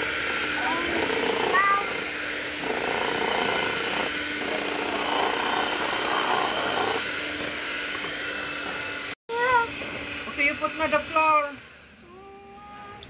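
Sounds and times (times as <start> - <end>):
electric hand mixer running: 0.0 - 12.6.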